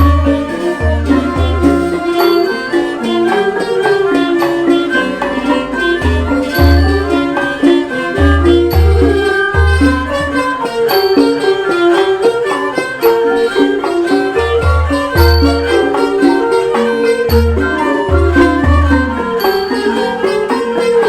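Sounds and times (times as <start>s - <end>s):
classical ensemble playing: 0.0s - 21.0s.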